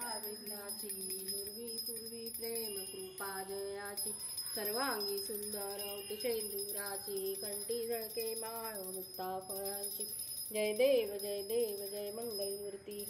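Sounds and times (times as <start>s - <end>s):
bell jingling: 0.0s - 13.0s.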